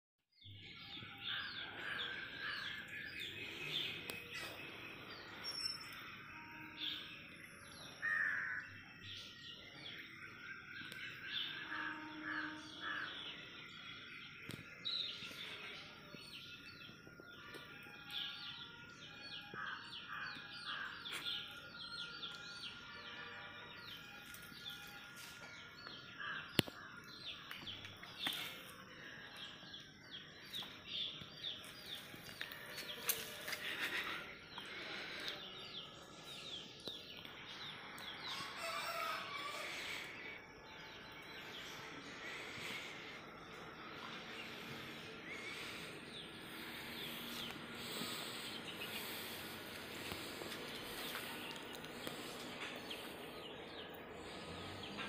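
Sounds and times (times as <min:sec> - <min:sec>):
birds chirping: 0:00.3 - 0:55.0.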